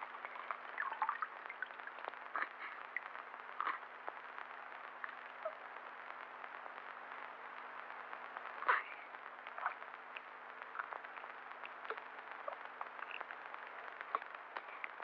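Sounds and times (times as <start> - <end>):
clicks and crackles: 0.0 - 15.0
film soundtrack hiss: 0.0 - 15.0.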